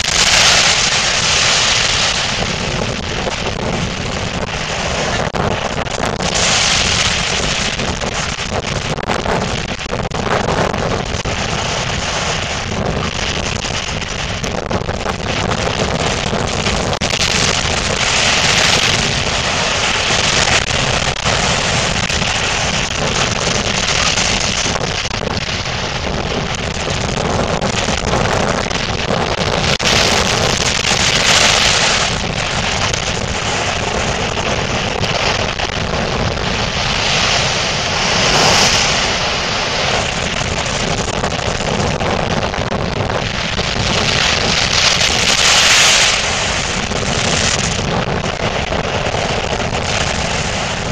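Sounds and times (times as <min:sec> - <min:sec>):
rough sea rushing: 0:00.0 - 0:50.9
wind buffeting microphone: 0:00.0 - 0:50.9.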